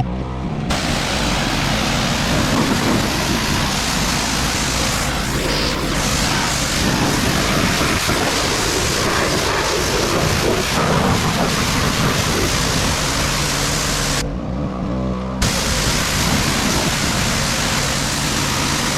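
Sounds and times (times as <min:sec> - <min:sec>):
pressure washer motor hum: 0:00.7 - 0:14.2, 0:15.4 - 0:18.9
pressure washer water spray: 0:00.7 - 0:14.2, 0:15.4 - 0:18.9.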